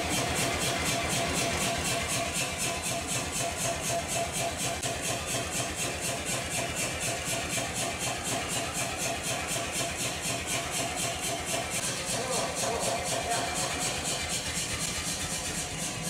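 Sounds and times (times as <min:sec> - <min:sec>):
power hammer motor chuffing: 0:00.0 - 0:16.0.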